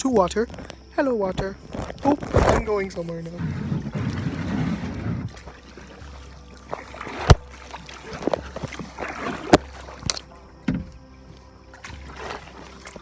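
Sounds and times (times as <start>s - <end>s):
water swishing with paddle strokes: 0.0s - 13.0s.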